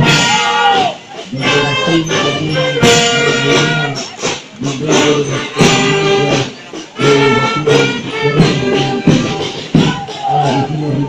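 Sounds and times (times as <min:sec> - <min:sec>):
marching music: 0:00.0 - 0:11.0.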